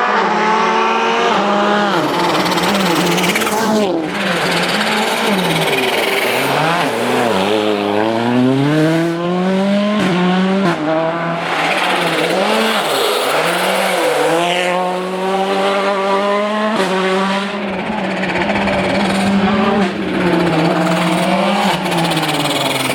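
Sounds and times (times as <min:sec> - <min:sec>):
rally car engine driven hard: 0:00.0 - 0:22.9.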